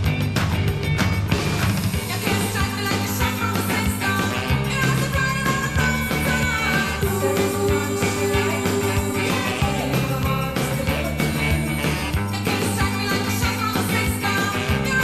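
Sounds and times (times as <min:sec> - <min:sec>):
rock band playing: 0:00.0 - 0:15.0
steady drum beat: 0:00.0 - 0:15.0.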